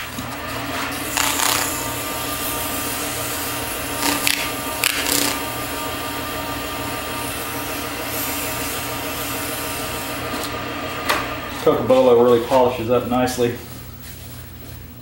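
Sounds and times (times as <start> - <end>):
wood lathe humming: 0.0 - 13.6.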